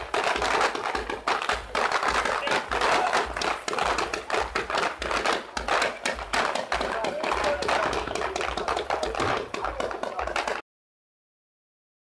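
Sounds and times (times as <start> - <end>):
fireworks crackling: 0.0 - 10.6.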